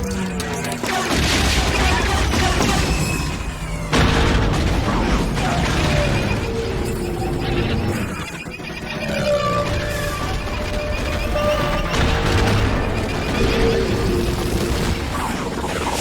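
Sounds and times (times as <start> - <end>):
laser blast zaps: 0.1 - 16.0
explosions and booms: 0.8 - 16.0.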